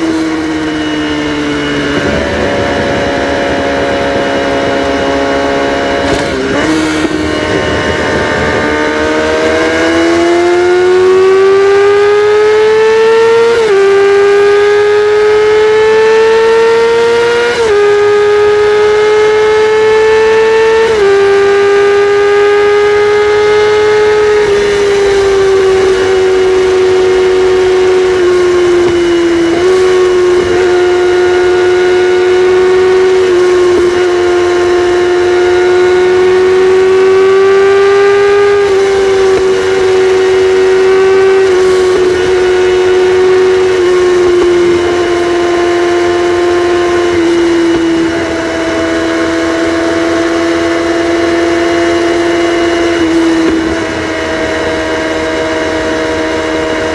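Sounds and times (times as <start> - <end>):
motorcycle engine revving high: 0.0 - 56.9.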